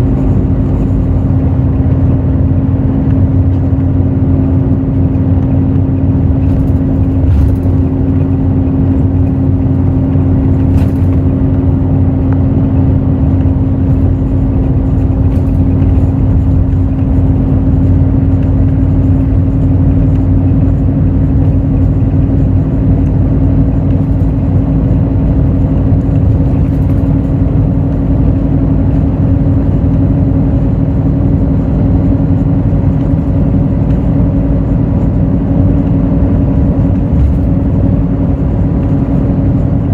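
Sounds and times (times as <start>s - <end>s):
bus diesel engine running: 0.0s - 39.9s
low road rumble: 0.0s - 39.9s.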